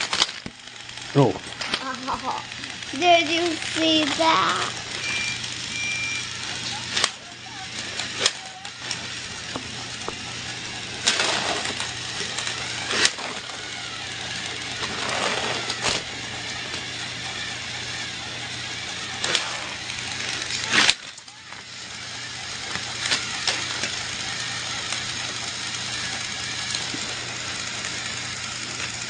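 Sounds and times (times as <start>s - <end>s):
toy train motor running: 0.0s - 29.0s.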